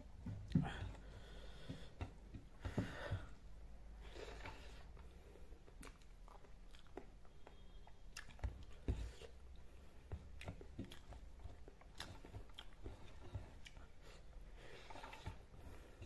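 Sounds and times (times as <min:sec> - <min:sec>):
person chewing food: 0:00.2 - 0:16.0.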